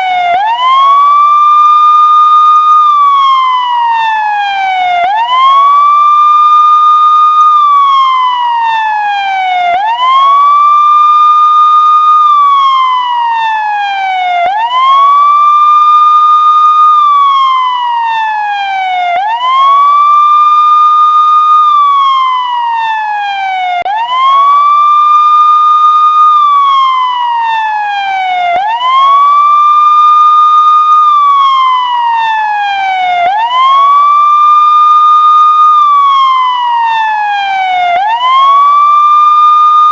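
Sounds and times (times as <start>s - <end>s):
electronic police siren wail: 0.0s - 39.9s.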